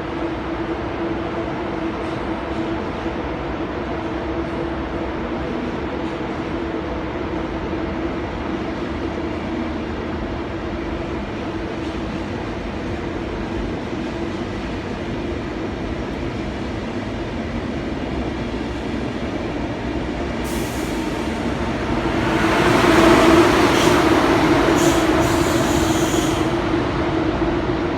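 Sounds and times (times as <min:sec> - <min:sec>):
train running: 0:00.0 - 0:27.9.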